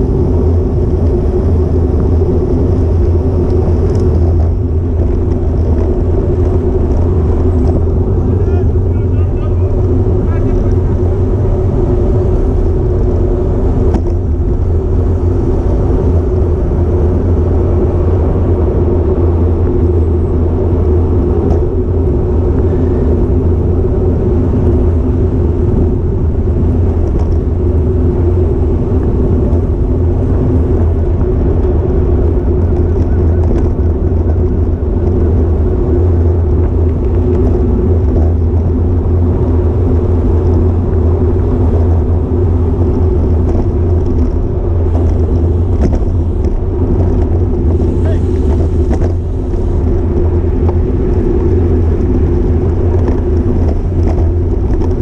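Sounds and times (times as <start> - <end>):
low hum: 0.0 - 55.0
tyre road noise: 0.0 - 55.0
wind rumble: 0.0 - 55.0.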